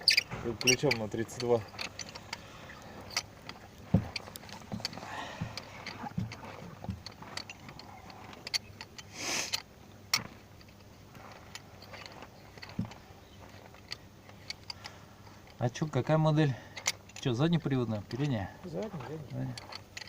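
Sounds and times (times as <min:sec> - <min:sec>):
hand tools clicking and knocking: 0:00.0 - 0:20.0.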